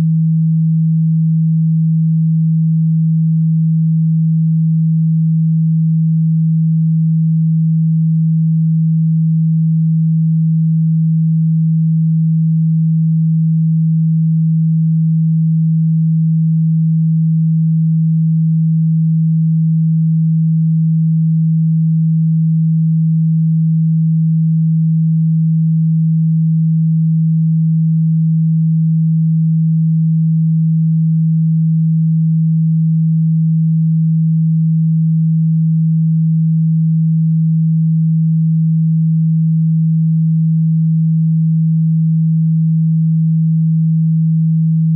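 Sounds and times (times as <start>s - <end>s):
low sine tone: 0.0s - 44.9s.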